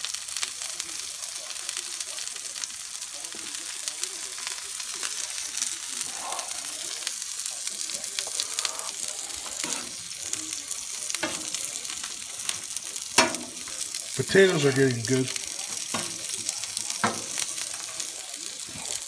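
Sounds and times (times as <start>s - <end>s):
meat and potatoes sizzling on griddle: 0.0s - 19.0s.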